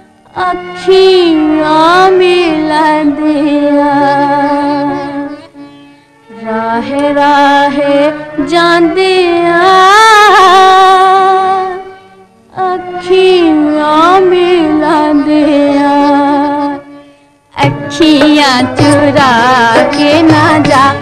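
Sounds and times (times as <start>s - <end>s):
light instrumental accompaniment: 0.0s - 21.0s
woman singing with vibrato: 0.3s - 5.6s, 6.3s - 11.9s, 12.5s - 17.0s, 17.6s - 21.0s.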